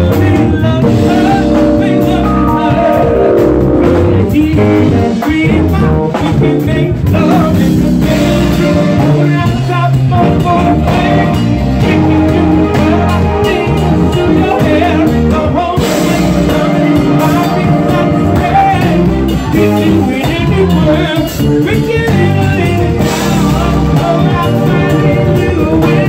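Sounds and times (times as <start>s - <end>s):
bass and drums: 0.0s - 26.0s
keyboards playing: 0.0s - 26.0s
person singing: 0.0s - 26.0s.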